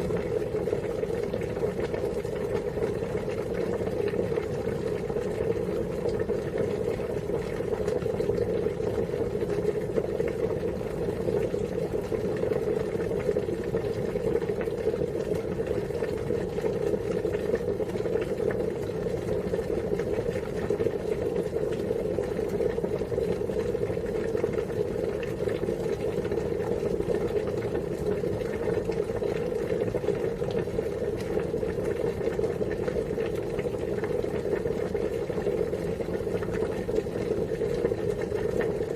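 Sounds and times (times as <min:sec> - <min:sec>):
water boiling: 0:00.0 - 0:38.9.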